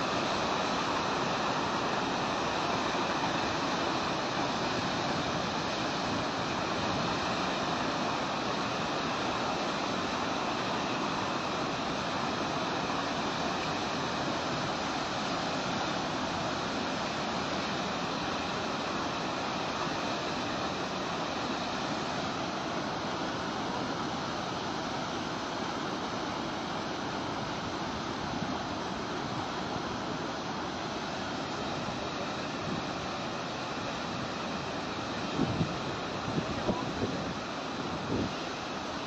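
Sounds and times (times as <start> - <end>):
floodwater rushing in river: 0.0 - 39.0.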